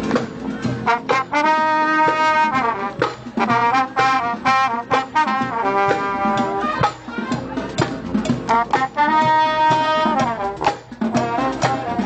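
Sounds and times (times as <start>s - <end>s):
brass band playing chords: 0.0s - 12.0s.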